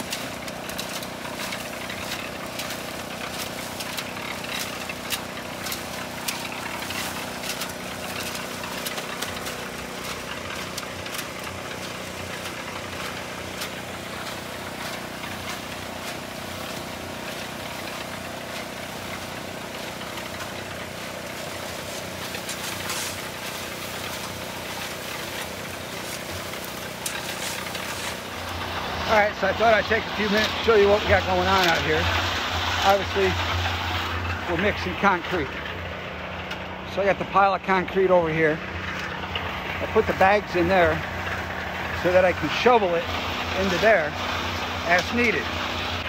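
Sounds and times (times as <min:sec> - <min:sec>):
concrete scraping and clattering: 0:00.0 - 0:37.1
cement mixer drum turning: 0:00.0 - 0:46.0
small generator engine running: 0:00.0 - 0:46.0.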